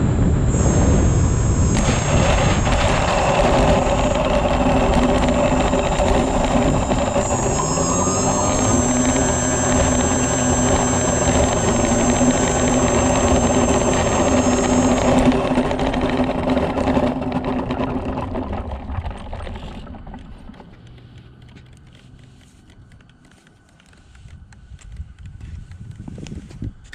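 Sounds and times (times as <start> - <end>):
model airplane motor whining: 0.3 - 25.8.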